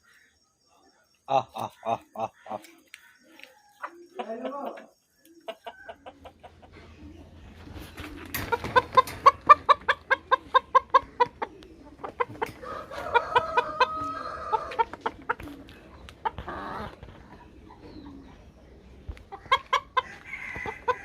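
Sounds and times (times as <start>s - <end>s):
chickens clucking: 1.0s - 21.0s.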